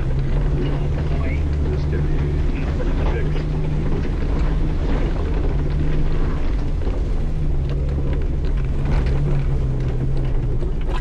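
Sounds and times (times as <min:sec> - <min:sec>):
knocks and rattles from bumps: 0:00.0 - 0:11.0
vehicle engine under load: 0:00.0 - 0:11.0.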